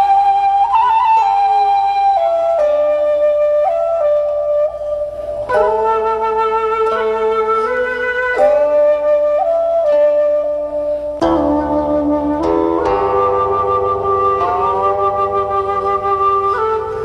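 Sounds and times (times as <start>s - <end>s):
flute-like melody: 0.0s - 17.0s.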